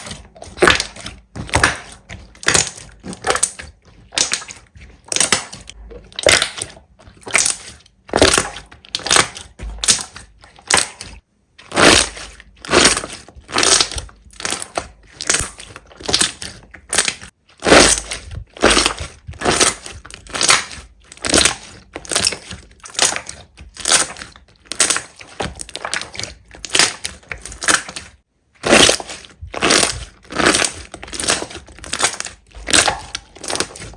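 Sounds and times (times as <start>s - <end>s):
slime squishing by hand: 0.0s - 33.9s.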